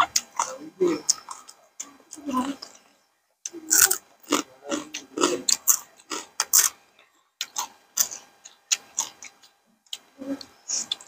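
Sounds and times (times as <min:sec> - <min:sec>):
crunchy wet chewing: 0:00.0 - 0:11.0.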